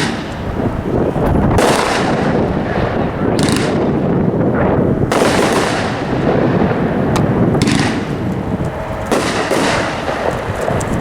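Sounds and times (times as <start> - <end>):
fireworks booming and crackling: 0.0 - 11.0.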